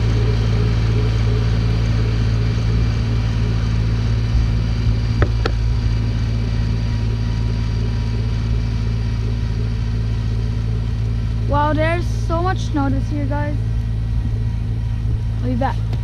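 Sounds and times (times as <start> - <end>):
snowblower engine running: 0.0 - 16.0.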